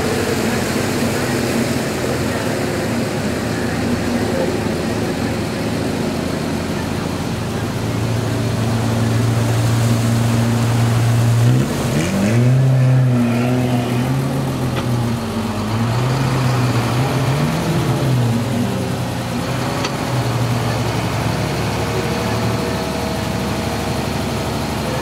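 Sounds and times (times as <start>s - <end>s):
vehicle engine revving: 0.0s - 25.0s.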